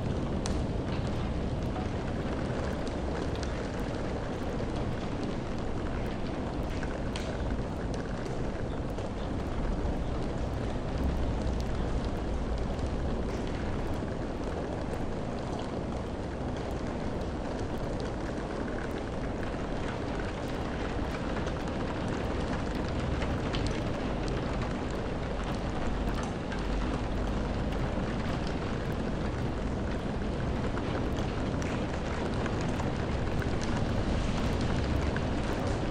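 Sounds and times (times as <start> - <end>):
steady rainfall: 0.0 - 35.9.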